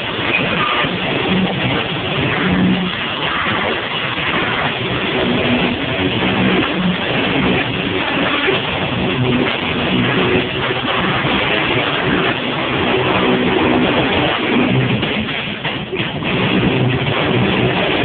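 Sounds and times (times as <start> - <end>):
amplified electric guitar: 0.0 - 18.0
drums: 0.0 - 18.0.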